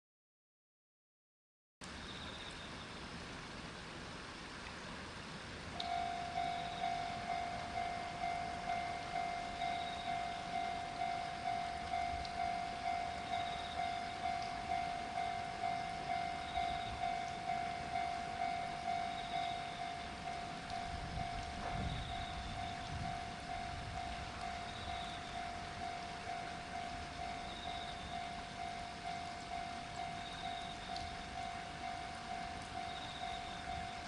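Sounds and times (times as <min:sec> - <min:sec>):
level crossing warning bell: 0:05.8 - 0:34.0.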